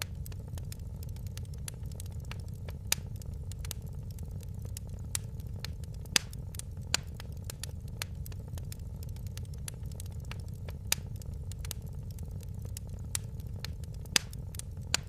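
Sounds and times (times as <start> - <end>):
low rumble of burning: 0.0 - 15.0
wood fire crackling: 0.0 - 15.0.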